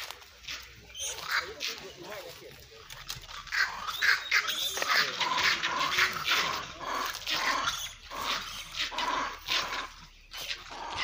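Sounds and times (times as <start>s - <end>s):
monkeys crying harshly: 0.9s - 2.2s, 3.1s - 11.0s.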